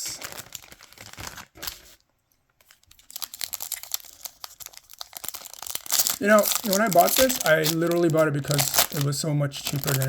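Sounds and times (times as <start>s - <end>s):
foil wrapper crinkling and tearing: 0.0s - 2.0s, 2.6s - 10.0s.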